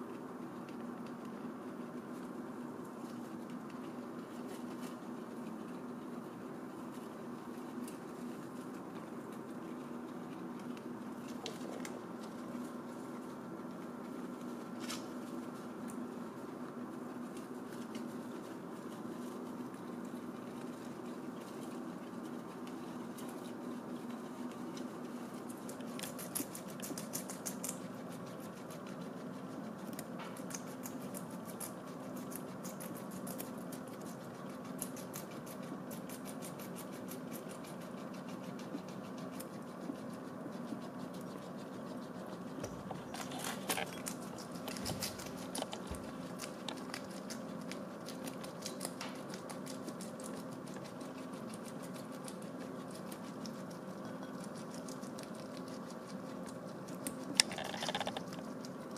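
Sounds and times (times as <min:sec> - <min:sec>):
guinea pigs chewing: 0:00.0 - 0:58.9
low steady hum: 0:00.0 - 0:58.9.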